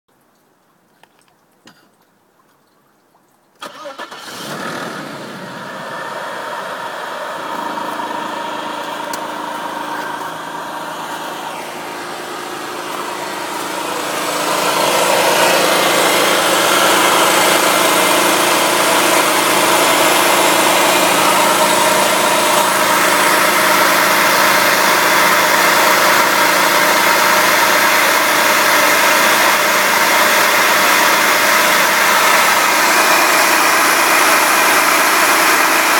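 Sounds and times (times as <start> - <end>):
car engine starting and idling: 3.6 - 35.9.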